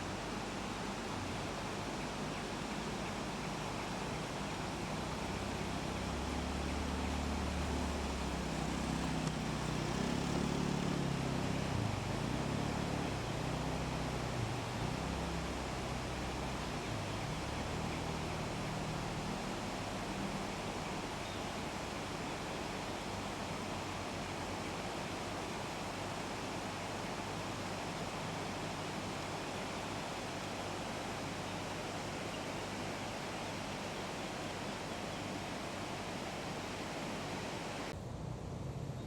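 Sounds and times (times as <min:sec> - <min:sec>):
flowing river water: 0:00.0 - 0:38.0.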